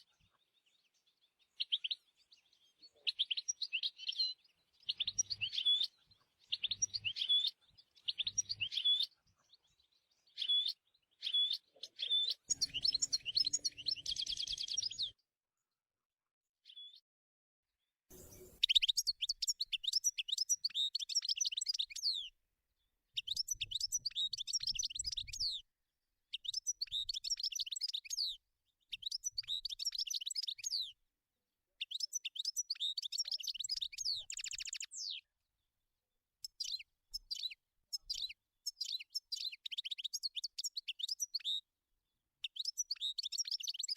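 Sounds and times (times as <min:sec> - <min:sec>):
goldfinch singing: 0:00.6 - 0:15.2, 0:18.1 - 0:22.3, 0:23.2 - 0:25.6, 0:26.3 - 0:31.0, 0:31.8 - 0:35.3, 0:36.4 - 0:41.7, 0:42.4 - 0:43.9.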